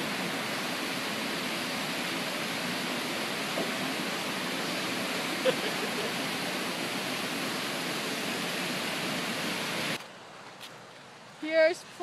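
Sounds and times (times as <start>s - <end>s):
water rushing down spillway: 0.0s - 10.0s.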